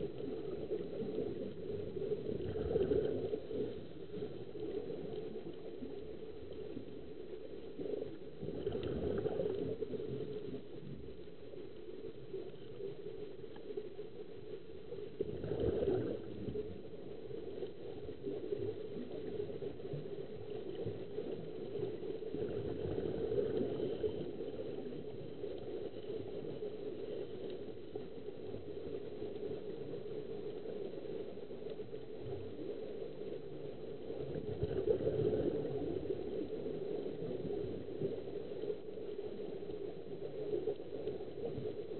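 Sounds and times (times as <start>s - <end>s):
underwater bubbling: 0.0s - 41.9s.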